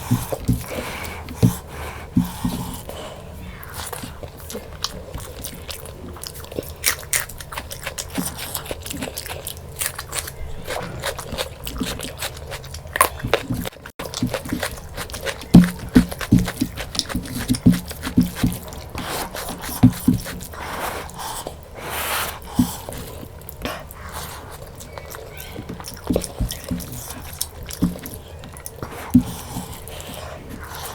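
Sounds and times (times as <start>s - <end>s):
chewing and biting food: 0.0s - 30.9s.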